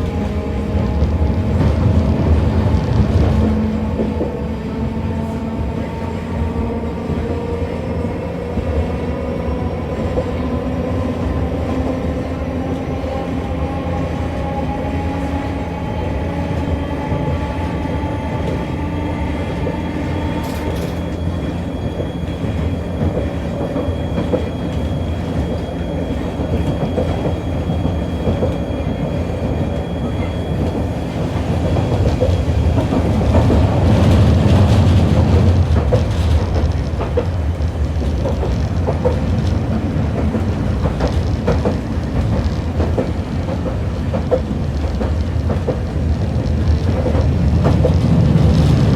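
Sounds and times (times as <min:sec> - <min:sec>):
tram motors whining: 0:00.0 - 0:48.9
tram wheels rumbling on rails: 0:00.0 - 0:48.9.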